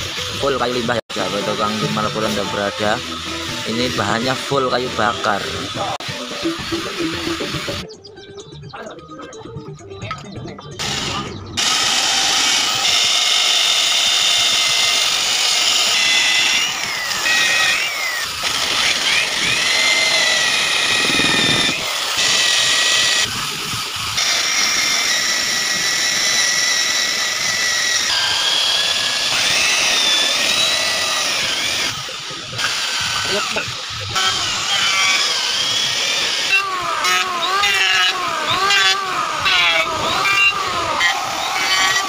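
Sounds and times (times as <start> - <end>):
electric drill boring into wood: 0.0 - 7.8, 10.8 - 42.0.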